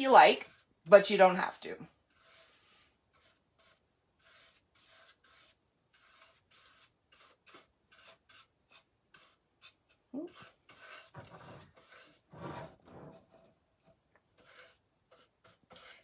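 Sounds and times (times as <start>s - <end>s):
brush strokes on paper: 0.0s - 13.5s, 14.3s - 16.0s.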